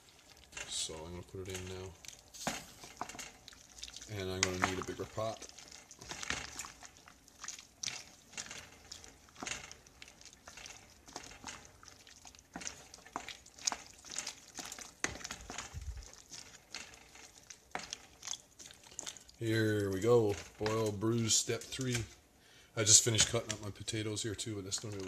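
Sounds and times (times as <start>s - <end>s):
spoon stirring vegetables in pot: 0.0s - 22.2s, 22.9s - 25.0s.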